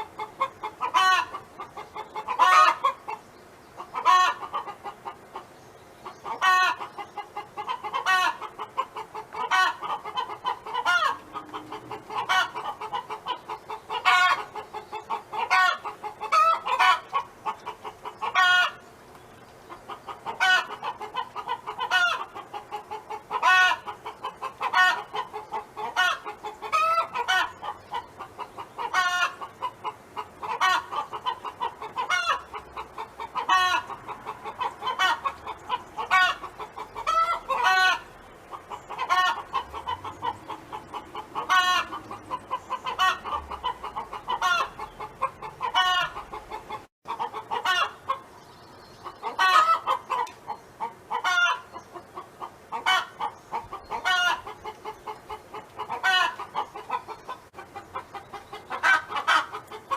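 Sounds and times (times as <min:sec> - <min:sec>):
hen clucking: 0:00.0 - 0:59.9.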